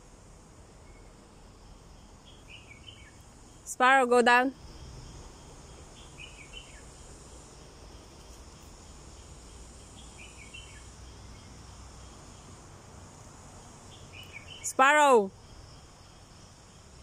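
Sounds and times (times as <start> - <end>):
high-pitched insect drone: 0.3 - 17.0.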